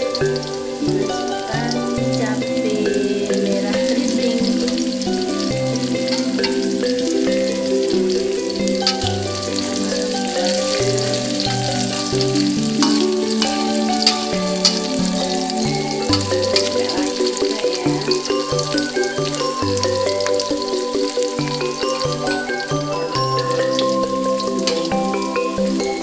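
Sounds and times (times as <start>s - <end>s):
background music with simple melody: 0.0s - 26.0s
oil sizzling in a wok: 0.0s - 26.0s
utensil stirring and tapping pan: 2.6s - 26.0s.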